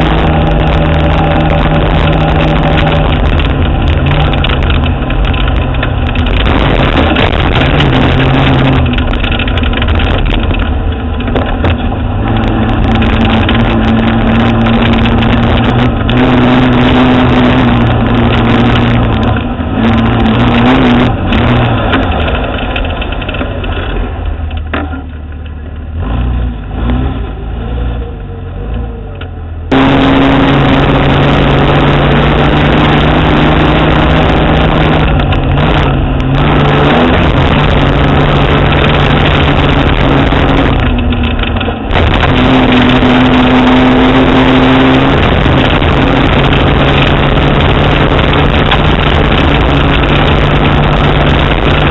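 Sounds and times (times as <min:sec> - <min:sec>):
tyre and road noise: 0:00.0 - 0:51.9
vehicle engine running: 0:00.0 - 0:51.9.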